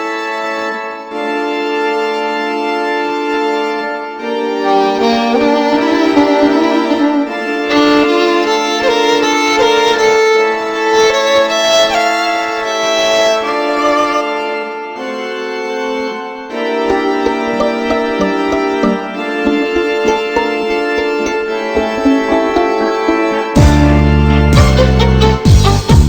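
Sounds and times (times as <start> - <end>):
held keyboard chords: 0.0 - 26.0
wavering violin-like melody: 4.2 - 26.0.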